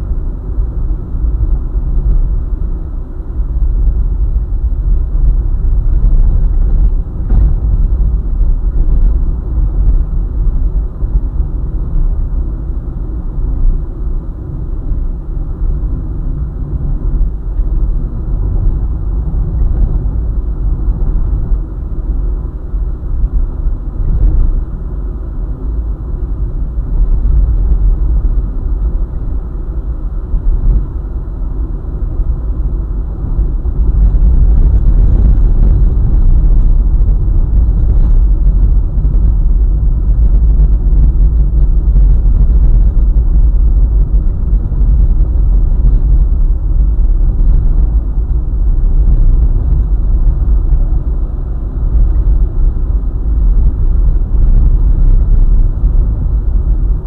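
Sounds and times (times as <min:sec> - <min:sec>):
car driving on highway: 0:00.0 - 0:57.0.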